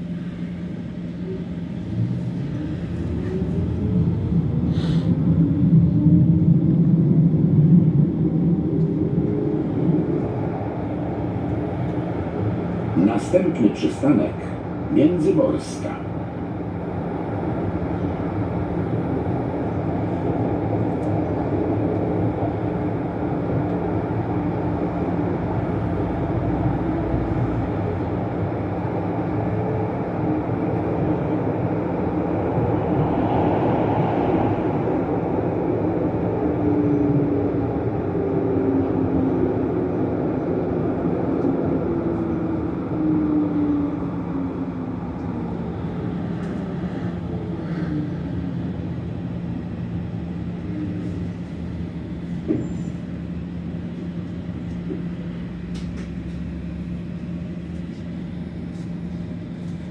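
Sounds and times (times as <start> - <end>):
low motor hum: 0.0 - 59.9
tram wheels rumbling on rails: 0.0 - 59.9.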